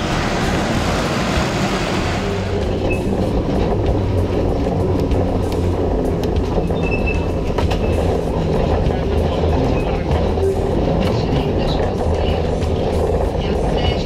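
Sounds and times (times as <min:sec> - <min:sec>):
electric tram rumbling on rails: 0:00.0 - 0:14.0
wheels clicking and knocking: 0:00.0 - 0:14.0.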